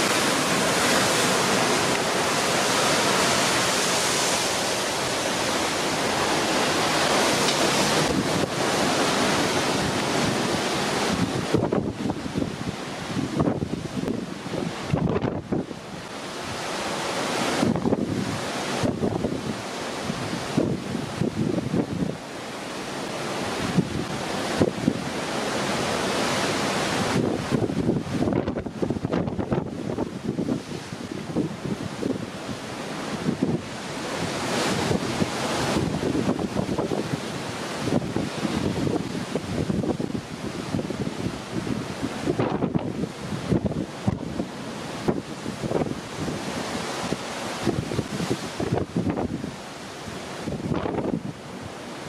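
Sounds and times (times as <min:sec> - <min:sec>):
wind buffeting microphone: 0:00.0 - 0:22.3, 0:23.2 - 0:52.0
rough sea churning: 0:00.0 - 0:52.0.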